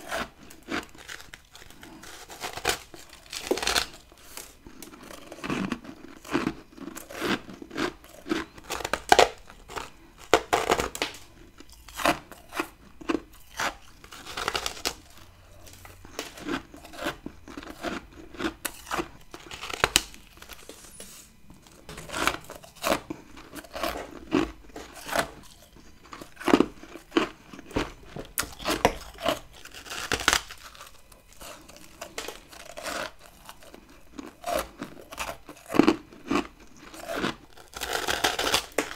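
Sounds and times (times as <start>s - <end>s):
crunching of frost being chewed: 0.0s - 38.9s.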